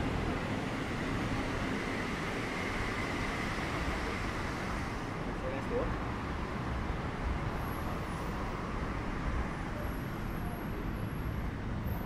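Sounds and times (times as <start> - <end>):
cars passing on road: 0.0 - 12.0.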